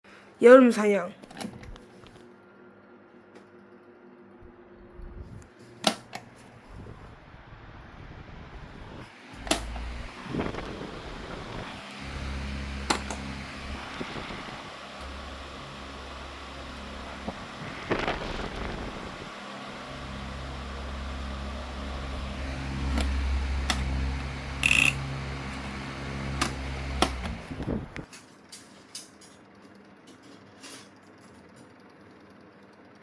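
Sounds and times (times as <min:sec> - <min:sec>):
electric fan motor hum: 0:00.1 - 0:28.2.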